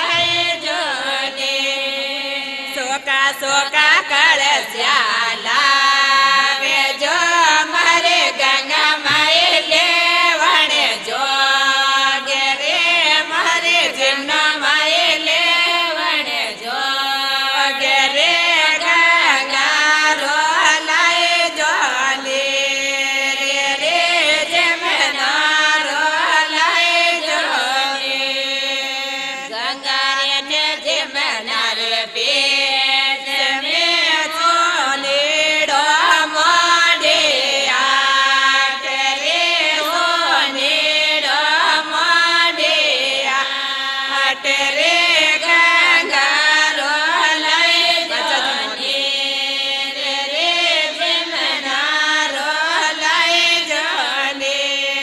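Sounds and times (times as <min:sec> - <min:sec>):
women singing in chorus: 0:00.0 - 0:55.0.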